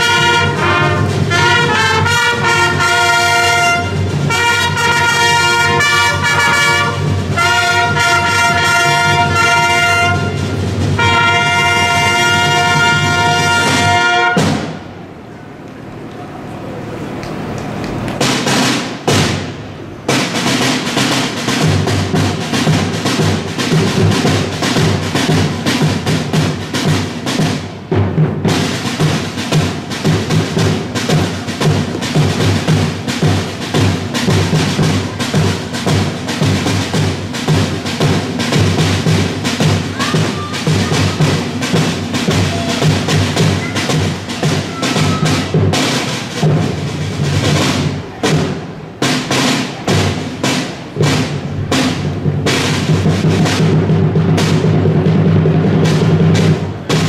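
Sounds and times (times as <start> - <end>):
snare and bass drums beating: 0.0 - 15.0, 18.2 - 57.0.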